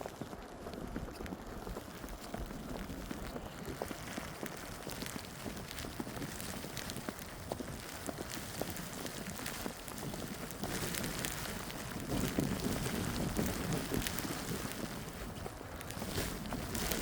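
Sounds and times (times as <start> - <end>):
footsteps crunching through snow: 0.0 - 17.0.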